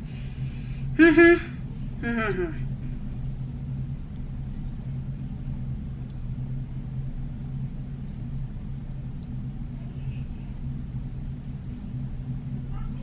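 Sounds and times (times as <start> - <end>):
low hum: 0.0 - 13.0
low rumble: 0.0 - 13.0.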